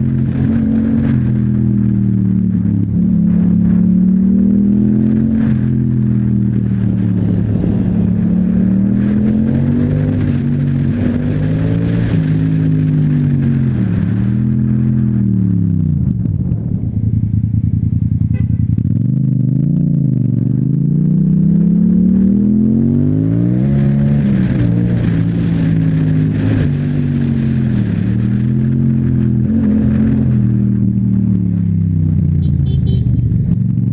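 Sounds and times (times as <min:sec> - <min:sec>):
wind rush on microphone: 0:00.0 - 0:20.6, 0:21.7 - 0:31.8
motorcycle engine revving: 0:00.0 - 0:33.9.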